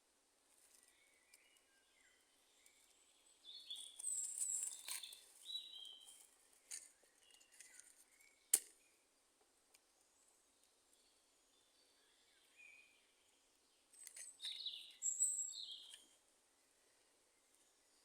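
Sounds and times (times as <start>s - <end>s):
forest birds chirping: 0.0s - 18.0s.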